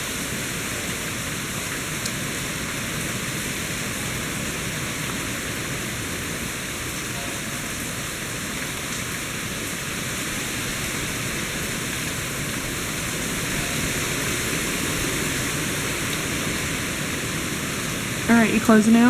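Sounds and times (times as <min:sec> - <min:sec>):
heavy rain: 0:00.0 - 0:19.0
hurricane wind: 0:00.0 - 0:19.0.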